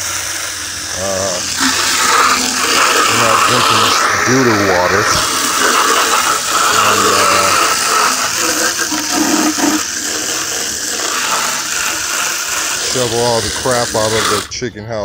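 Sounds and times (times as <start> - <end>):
hose spraying water: 0.0 - 14.6.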